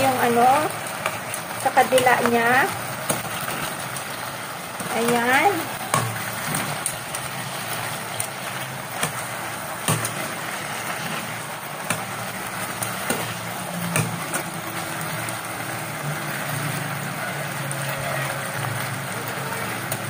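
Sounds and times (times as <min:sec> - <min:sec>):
chicken sizzling in sauce: 0:00.0 - 0:20.0.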